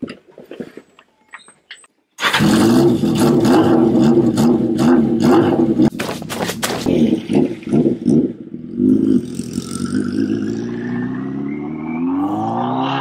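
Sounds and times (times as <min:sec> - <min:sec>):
motorcycle engine revving: 0:02.2 - 0:13.0.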